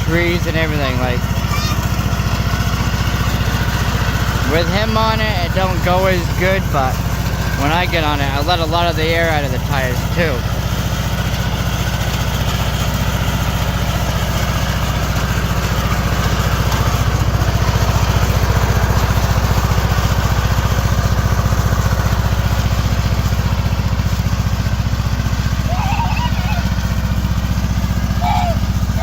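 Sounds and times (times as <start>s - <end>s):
riding lawn mower engine: 0.0s - 29.0s.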